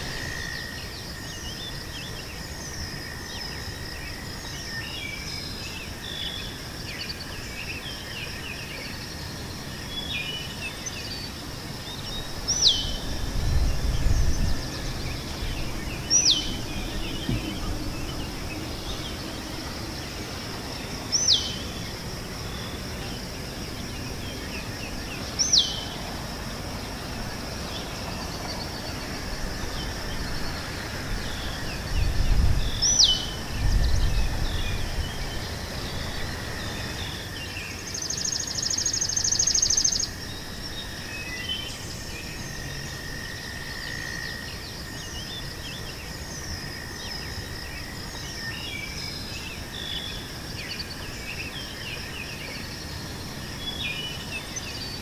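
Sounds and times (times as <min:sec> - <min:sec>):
birds twittering chirps: 0:00.0 - 0:55.0
insect drone: 0:00.0 - 0:55.0.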